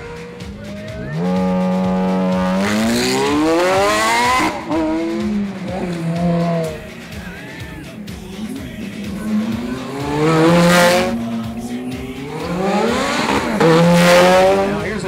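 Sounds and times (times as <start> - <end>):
car engine revving: 0.0 - 15.0
tyre noise: 0.0 - 15.0.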